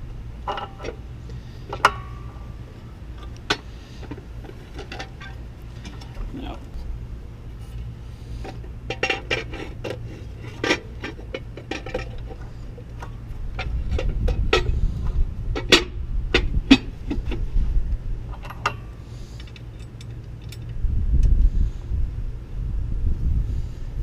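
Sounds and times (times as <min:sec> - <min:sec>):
low rumble: 0:00.0 - 0:08.8, 0:11.6 - 0:24.0.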